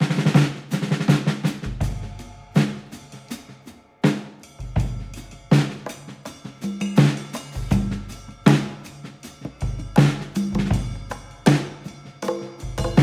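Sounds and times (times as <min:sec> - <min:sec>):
drum kit heavy beat: 0:00.0 - 0:13.0.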